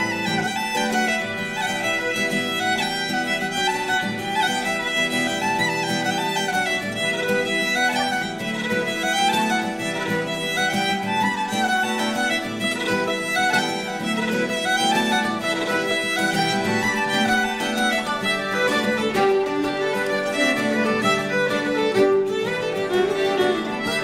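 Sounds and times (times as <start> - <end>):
lively fiddle music: 0.0 - 24.0.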